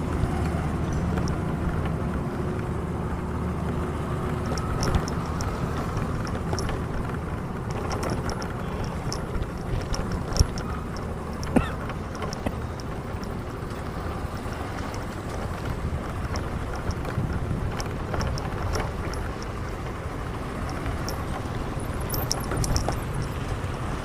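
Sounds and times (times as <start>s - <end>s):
low outdoor rumble: 0.0s - 24.0s
wind buffeting microphone: 0.0s - 24.0s.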